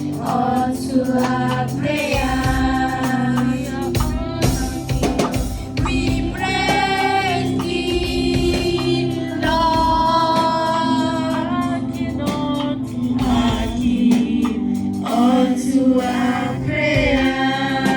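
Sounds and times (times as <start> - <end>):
gospel choir singing: 0.0 - 17.9
percussion beats: 0.0 - 17.9.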